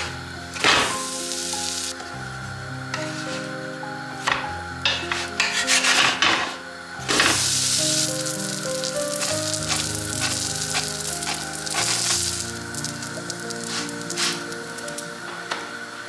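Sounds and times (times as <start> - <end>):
food sizzling in a pan: 0.0 - 2.1, 3.0 - 16.0
soft background music: 0.0 - 16.0.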